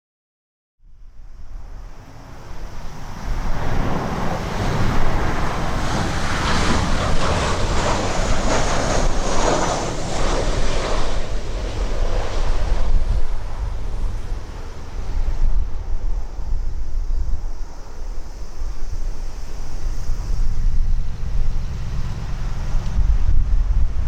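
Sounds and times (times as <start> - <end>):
faint high whine: 0.8 - 24.0
wind buffeting microphone: 0.9 - 24.0
jet engine passing: 1.1 - 24.0.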